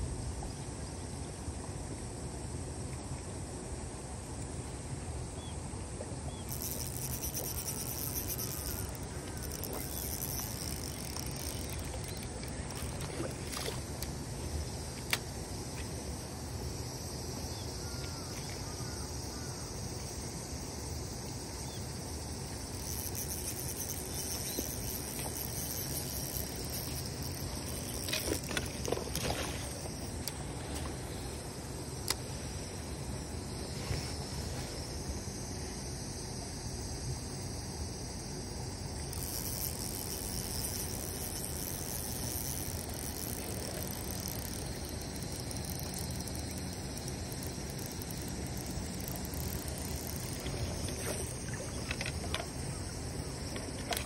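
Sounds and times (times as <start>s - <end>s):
high-pitched insect buzz: 6.3s - 54.0s.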